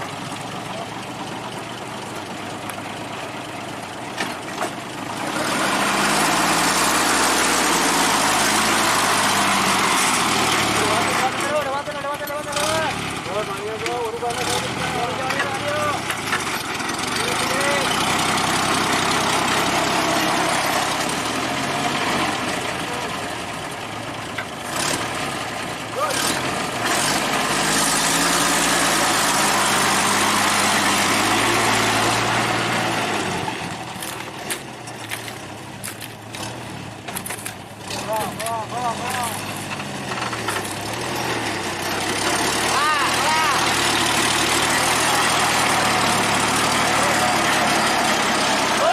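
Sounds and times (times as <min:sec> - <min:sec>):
truck petrol engine running: 0:00.0 - 0:48.9.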